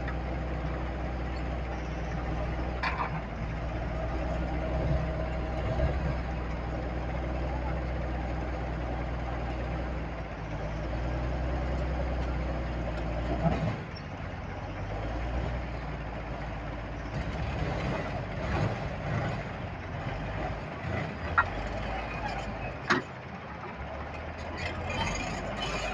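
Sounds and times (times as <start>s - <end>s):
bulldozer diesel engine running: 0.0s - 25.9s.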